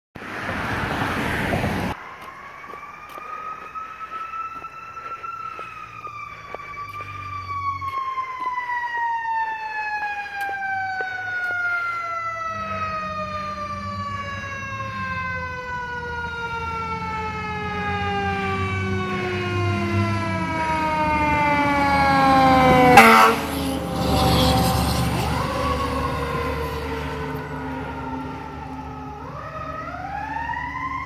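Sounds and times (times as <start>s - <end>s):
fire engine siren winding down: 0.2s - 31.0s
truck engine rumble: 0.2s - 31.0s.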